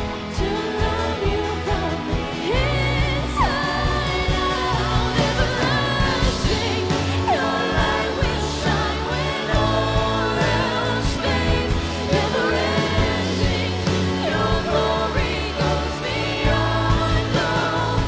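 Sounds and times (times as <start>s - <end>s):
woman singing lead vocal: 0.0s - 18.0s
worship band playing: 0.0s - 18.0s.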